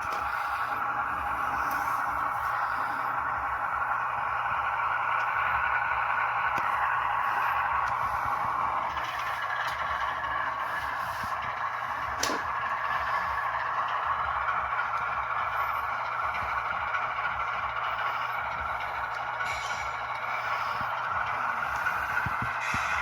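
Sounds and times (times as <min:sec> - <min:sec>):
diesel engine sound from small speaker: 0:00.0 - 0:23.0.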